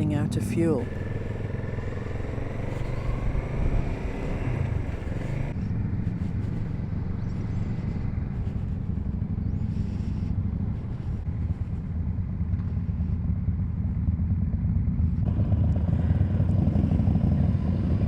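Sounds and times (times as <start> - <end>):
motorcycle engine accelerating: 0.0 - 18.0
road noise: 0.0 - 18.0.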